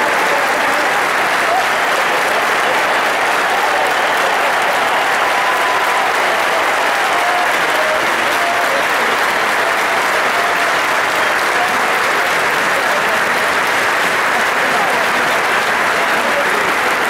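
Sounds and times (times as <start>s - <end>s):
stadium crowd applauding: 0.0s - 17.0s.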